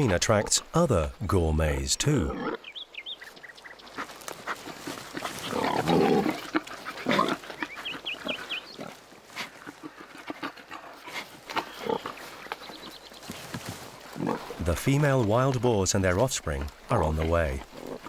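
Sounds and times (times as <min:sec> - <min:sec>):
wild boars grunting and snuffling: 0:00.0 - 0:18.0.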